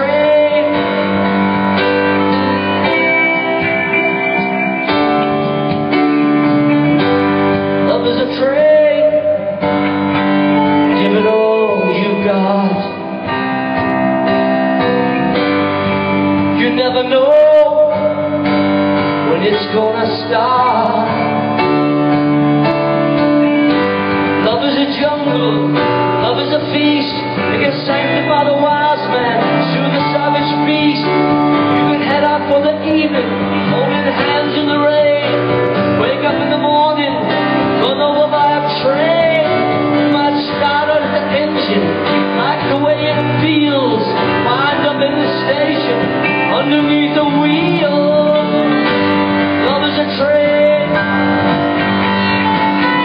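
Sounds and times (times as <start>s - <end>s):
electric guitar bending notes: 0.0s - 53.0s
live rock band playing: 0.0s - 53.0s.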